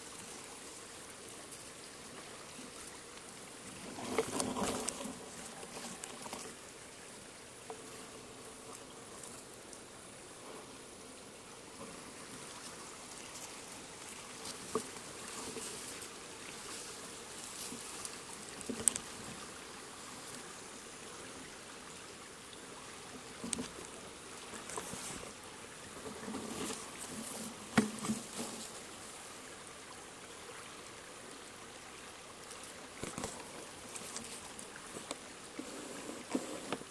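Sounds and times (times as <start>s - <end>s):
stream trickling: 0.0s - 36.9s.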